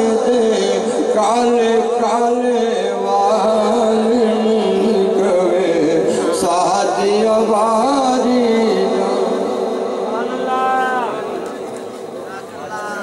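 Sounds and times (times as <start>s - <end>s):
man singing: 0.0s - 11.4s.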